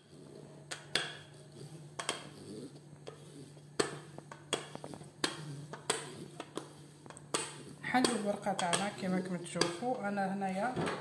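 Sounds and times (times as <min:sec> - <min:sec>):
rolling pin on dough: 0:00.0 - 0:10.7.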